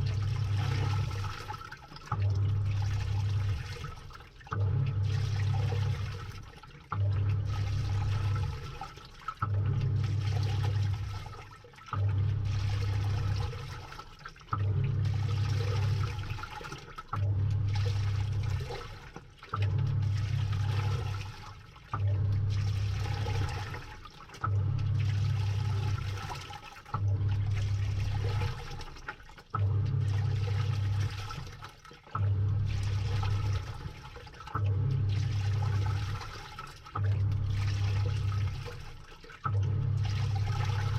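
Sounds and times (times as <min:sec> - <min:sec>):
washing machine agitating: 0:00.0 - 0:40.9
water sloshing: 0:00.0 - 0:40.9.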